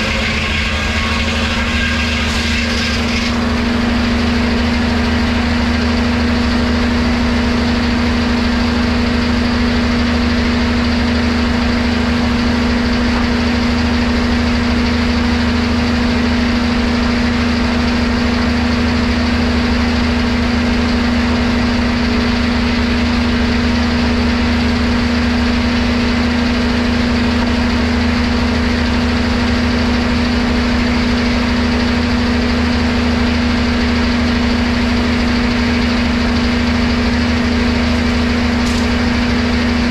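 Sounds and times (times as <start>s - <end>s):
machinery humming: 0.0s - 39.9s.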